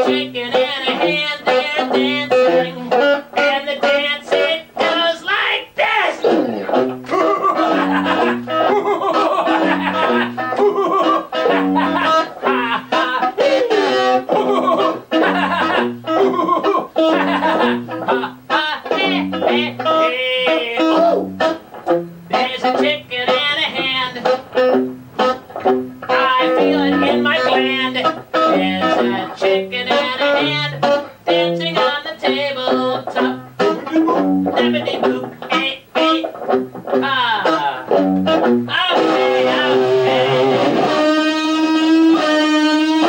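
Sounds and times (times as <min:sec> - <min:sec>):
plucked guitar notes: 0:00.0 - 0:05.0, 0:06.2 - 0:43.0.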